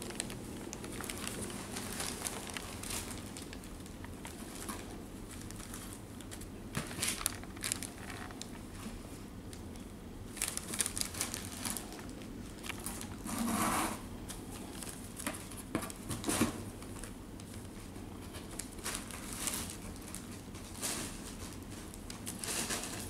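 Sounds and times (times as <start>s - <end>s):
packing paper crinkling: 0.0s - 9.7s, 10.3s - 13.3s, 14.5s - 23.0s.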